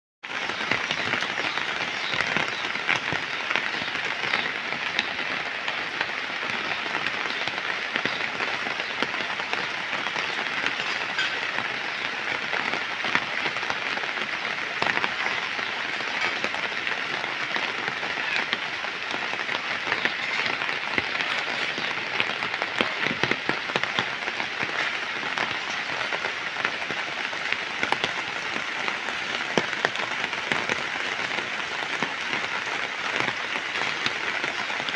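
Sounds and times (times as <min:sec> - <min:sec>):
heavy rain: 0:00.2 - 0:34.9.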